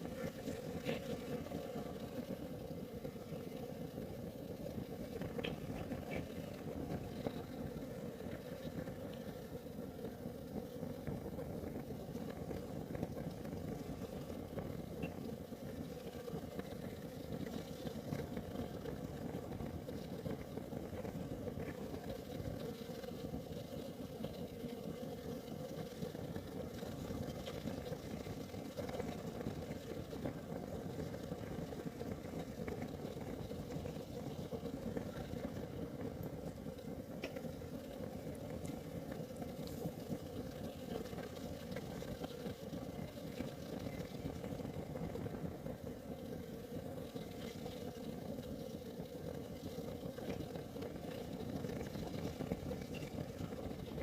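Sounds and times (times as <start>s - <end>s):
heater flame rumbling: 0.0s - 54.0s.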